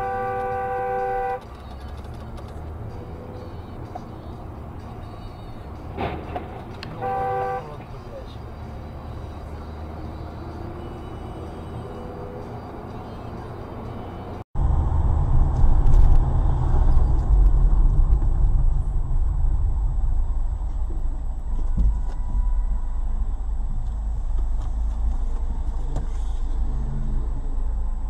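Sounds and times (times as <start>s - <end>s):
car engine rumble and road noise: 0.0s - 28.0s.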